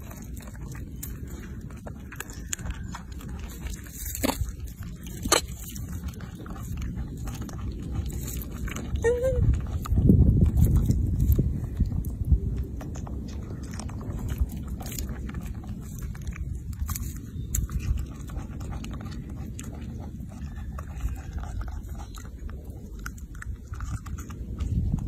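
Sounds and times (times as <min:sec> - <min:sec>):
low steady rumble: 0:00.0 - 0:25.0
monkey chewing fruit: 0:00.0 - 0:25.0.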